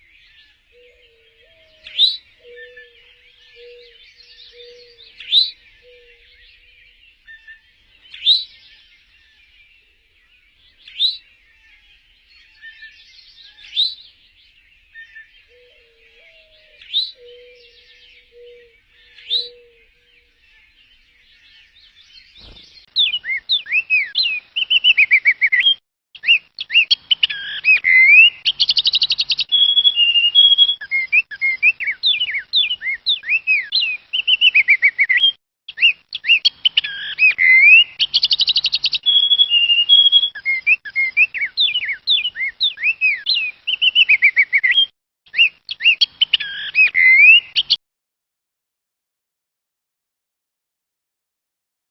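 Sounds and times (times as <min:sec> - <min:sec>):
songbird trills and whistles: 0:00.0 - 0:09.8, 0:10.5 - 0:47.8
faint bird chorus: 0:00.0 - 0:47.8
rising bird chirp: 0:00.0 - 0:47.8.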